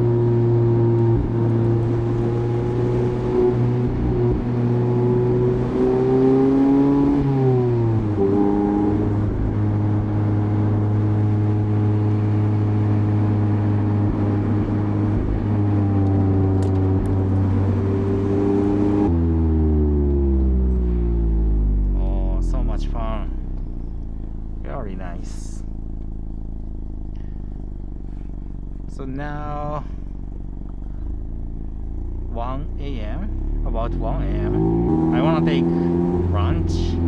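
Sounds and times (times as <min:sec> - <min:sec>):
car engine pulling while driving: 0:00.0 - 0:37.0.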